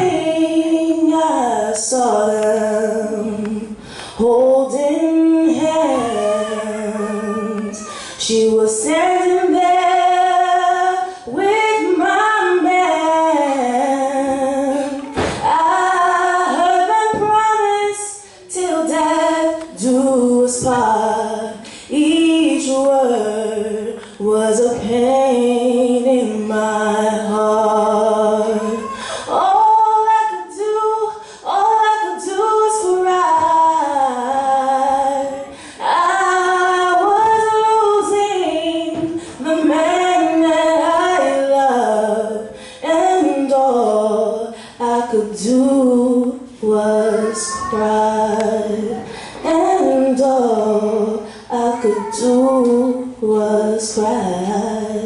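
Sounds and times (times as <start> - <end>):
woman singing solo: 0.0 - 55.0.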